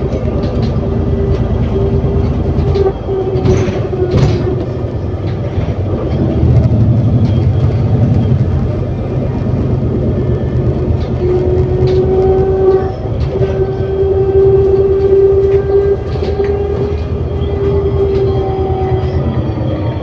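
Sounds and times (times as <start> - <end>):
bus drivetrain rumble: 0.0 - 20.0
high whine: 0.9 - 20.0.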